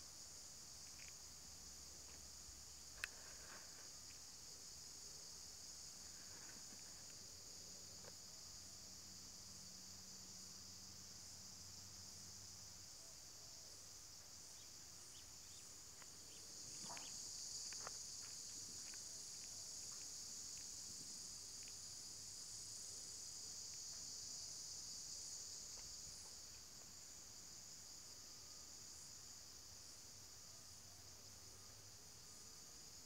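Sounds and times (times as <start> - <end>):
insects chorus: 0.0 - 33.0.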